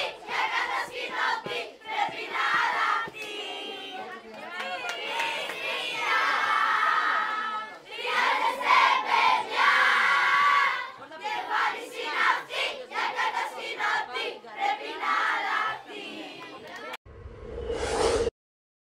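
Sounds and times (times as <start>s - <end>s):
crowd of children shouting: 0.0s - 16.9s.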